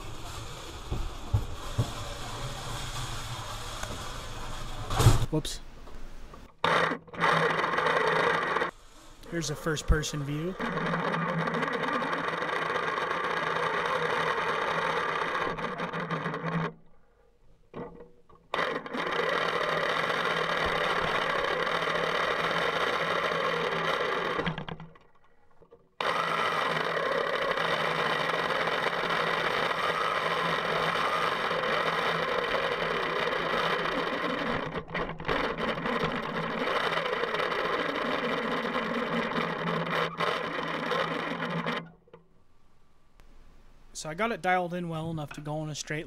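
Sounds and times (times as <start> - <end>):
toy electric motor whirring: 0.0 - 4.9, 6.6 - 16.8, 18.5 - 25.0, 25.6 - 41.9.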